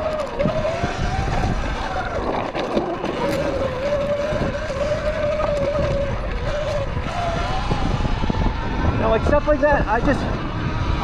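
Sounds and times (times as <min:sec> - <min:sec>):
electric motor whining: 0:00.0 - 0:11.0
wind and trail rumble: 0:00.0 - 0:11.0.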